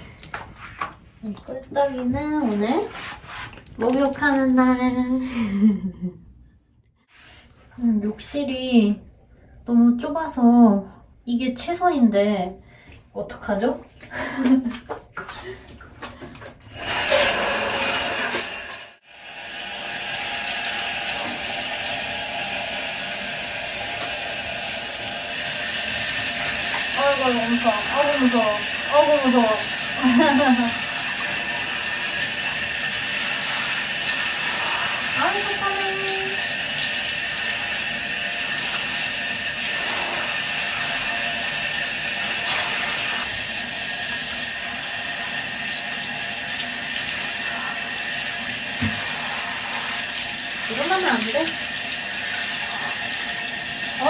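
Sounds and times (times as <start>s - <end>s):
shower running: 0.0s - 5.9s, 12.8s - 54.0s.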